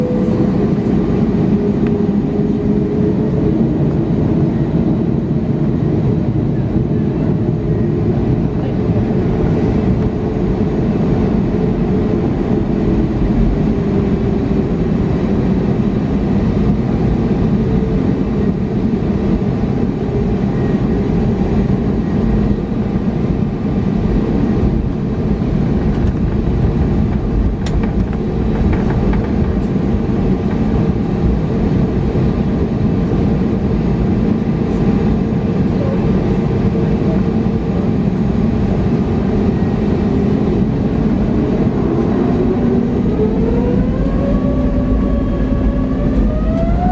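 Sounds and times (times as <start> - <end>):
jet engines at high thrust: 0.0 - 46.9.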